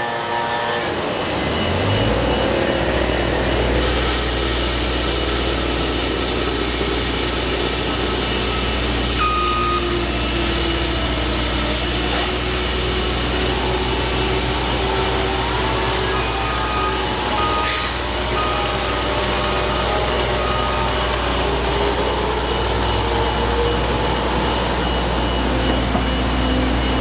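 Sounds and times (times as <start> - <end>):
heavy machinery engine humming: 0.0 - 27.0.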